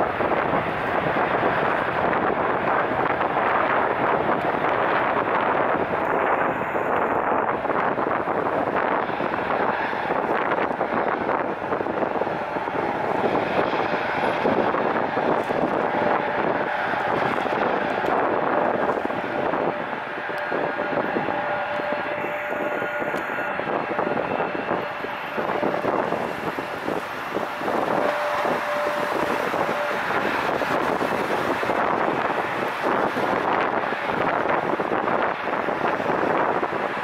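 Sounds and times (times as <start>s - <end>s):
distant jet roar: 0.0s - 37.0s
wind on microphone: 0.0s - 37.0s.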